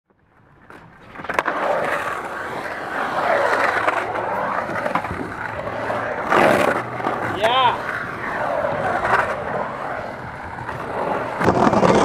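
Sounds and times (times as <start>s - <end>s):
skateboard clack: 0.1s - 12.0s
skateboard wheels rolling on concrete: 0.1s - 12.0s.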